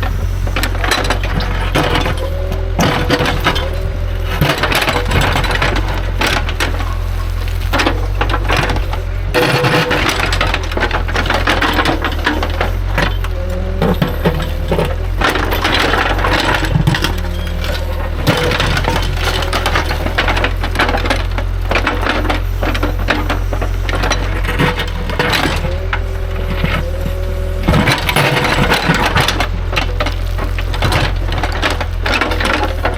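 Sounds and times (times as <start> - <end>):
diesel engine running: 0.0 - 32.9
rocks clattering and scraping: 0.0 - 32.9.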